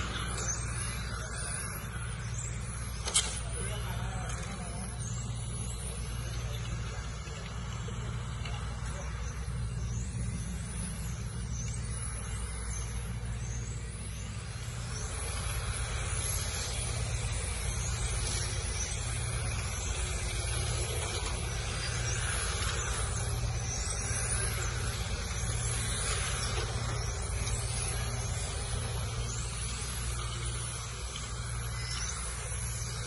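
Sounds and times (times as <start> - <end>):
electric motors whining: 0.0 - 33.0
steady low hum: 0.0 - 33.0.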